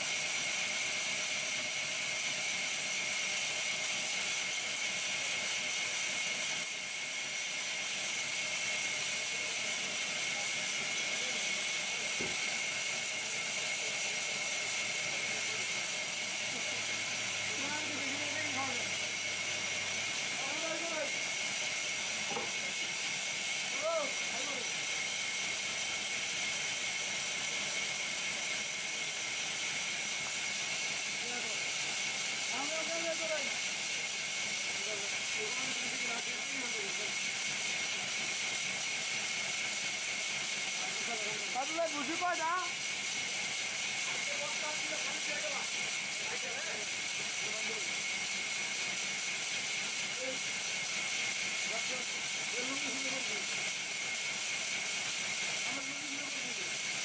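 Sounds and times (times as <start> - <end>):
band saw whining: 2.2 - 53.9.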